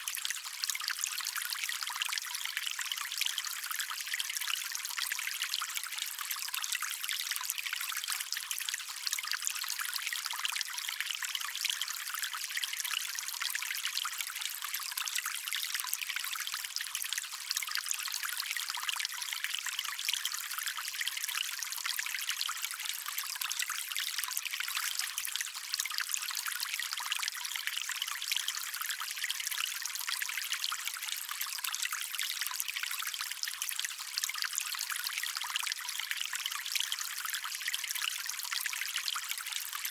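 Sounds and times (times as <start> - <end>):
water trickling in a stream: 0.0 - 39.9.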